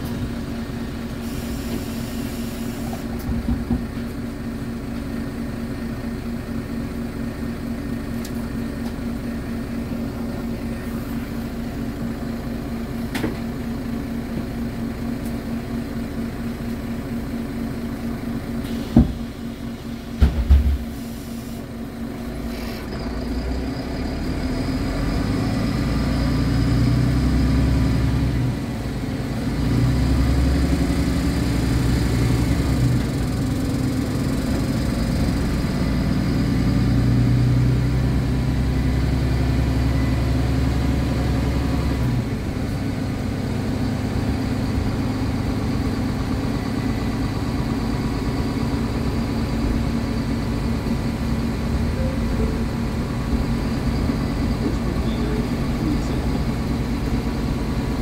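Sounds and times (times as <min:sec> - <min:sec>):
bus diesel engine idling: 0:00.0 - 0:58.0.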